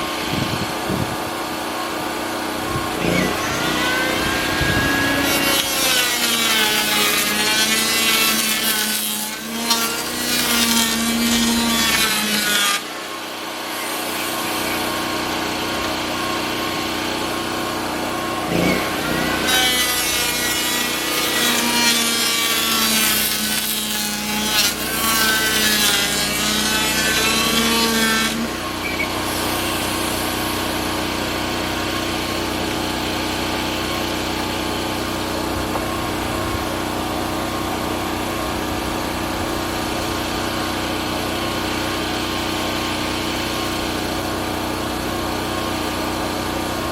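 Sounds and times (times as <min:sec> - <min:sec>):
table saw cutting wood: 0:00.0 - 0:46.9
table saw running free: 0:00.0 - 0:46.9.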